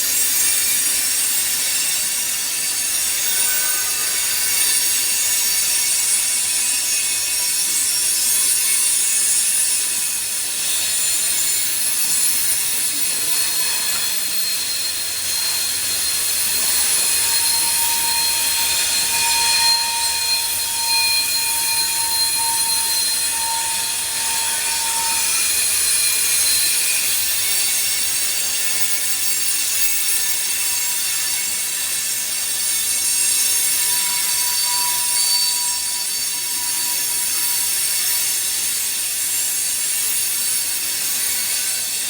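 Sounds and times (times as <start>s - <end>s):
train wheels screeching on rails: 0.0s - 42.0s.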